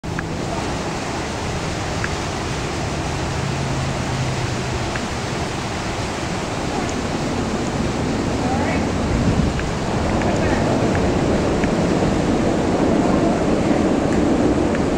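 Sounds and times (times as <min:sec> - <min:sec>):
steady rushing noise: 0:00.0 - 0:14.9.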